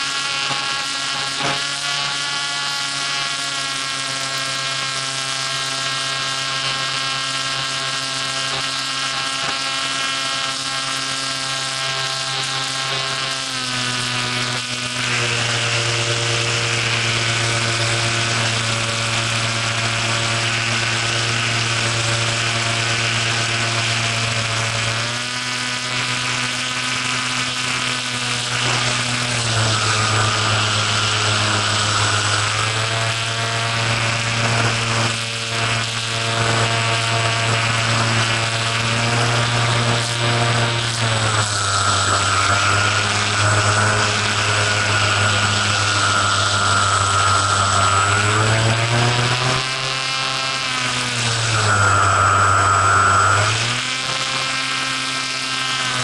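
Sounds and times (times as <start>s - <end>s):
model airplane motor whining: 0.0s - 56.0s.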